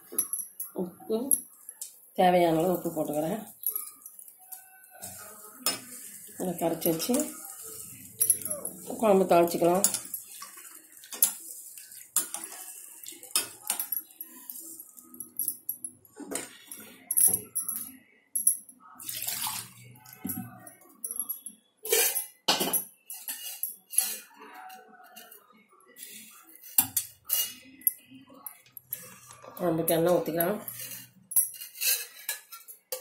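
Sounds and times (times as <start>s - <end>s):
splashes and clinks against metal: 2.6s - 24.2s, 26.8s - 33.0s.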